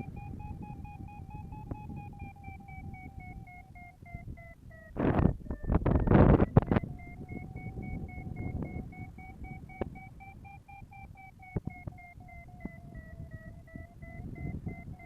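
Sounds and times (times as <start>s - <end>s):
low wind rush: 0.0s - 15.0s
sharp clicks: 0.0s - 15.0s
variometer beeping: 0.0s - 15.0s.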